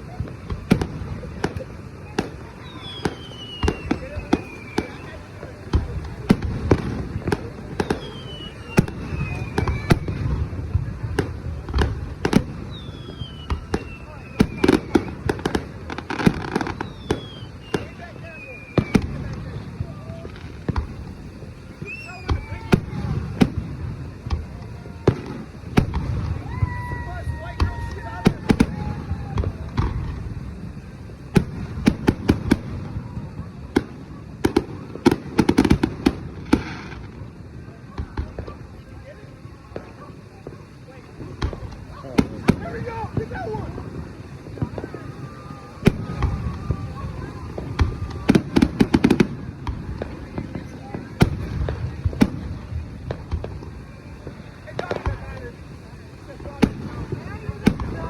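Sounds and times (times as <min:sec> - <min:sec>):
descending firework whistle: 0:00.0 - 0:58.0
fireworks bangs: 0:00.0 - 0:58.0.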